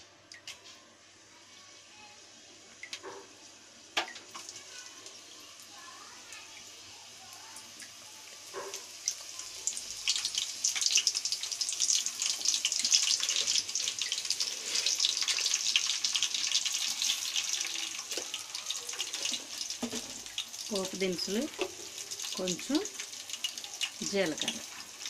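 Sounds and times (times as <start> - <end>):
spices sizzling in hot oil: 0.3 - 25.0.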